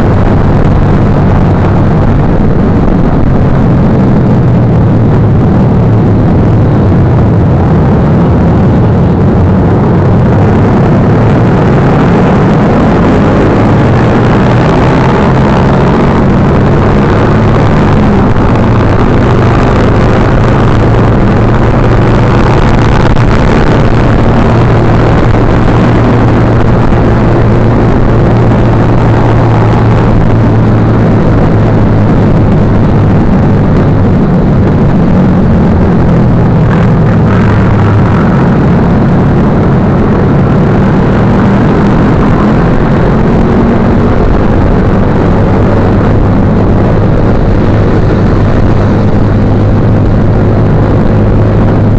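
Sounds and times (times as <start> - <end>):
constant rushing noise: 0.0 - 51.9.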